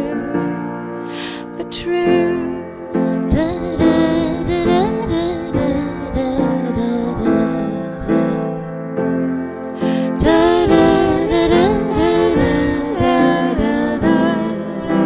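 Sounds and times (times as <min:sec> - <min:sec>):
soft pop song singing: 0:00.0 - 0:08.7, 0:09.8 - 0:15.0
piano accompaniment: 0:00.0 - 0:15.0.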